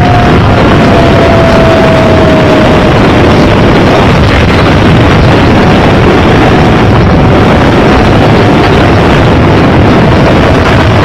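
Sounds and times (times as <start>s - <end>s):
loud overloaded rumbling: 0.0s - 11.0s.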